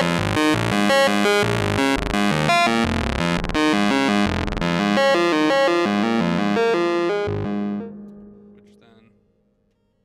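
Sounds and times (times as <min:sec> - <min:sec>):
stepped synth notes: 0:00.0 - 0:09.0.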